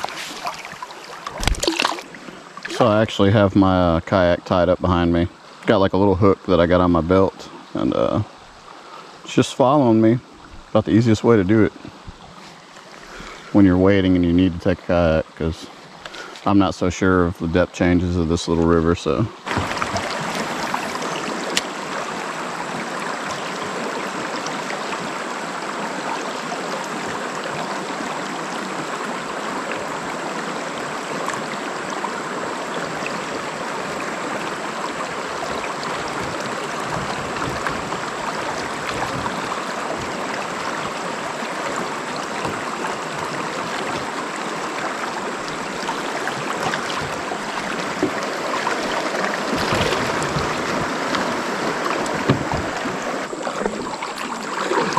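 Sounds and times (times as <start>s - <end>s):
water flowing in a creek: 0.0s - 54.9s.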